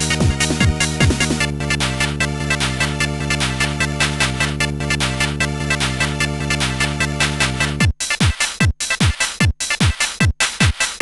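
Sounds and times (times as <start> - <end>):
electronic music with fast beat: 0.0 - 11.0.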